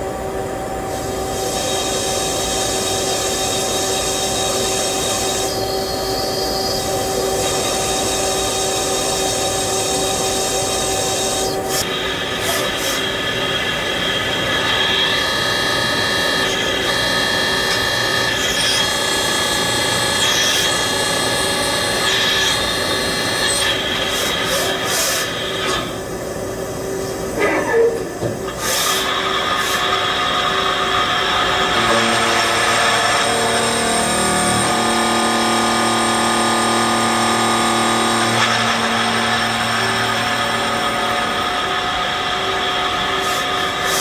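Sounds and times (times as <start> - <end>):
lathe machining metal: 0.8 - 26.1, 28.5 - 44.0
milling cutter working metal: 1.0 - 26.0, 28.5 - 44.0.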